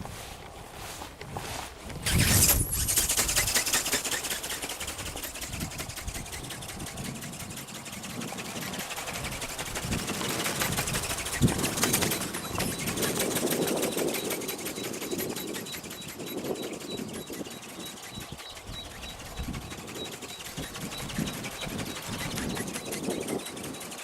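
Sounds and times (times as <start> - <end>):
motor driving flapping wings: 0.0 - 24.0
wind buffeting microphone: 0.0 - 24.0.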